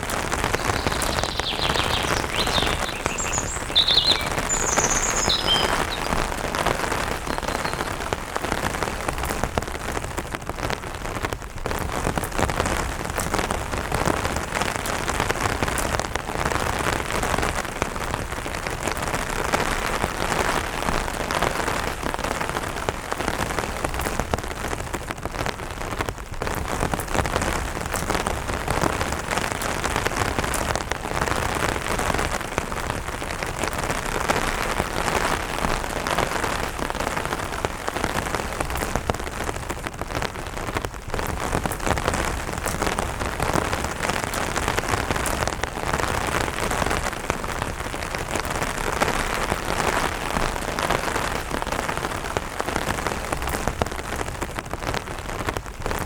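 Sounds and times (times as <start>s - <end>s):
light rain on an umbrella: 0.0s - 56.0s.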